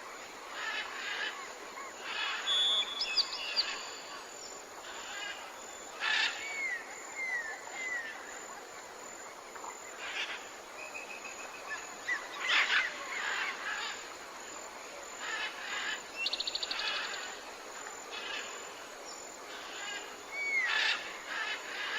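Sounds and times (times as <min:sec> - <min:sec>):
faint steady background hiss: 0:00.0 - 0:21.9.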